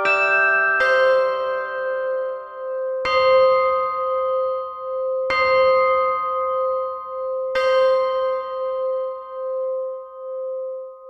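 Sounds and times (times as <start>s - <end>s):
large bell striking: 0.0s - 10.8s.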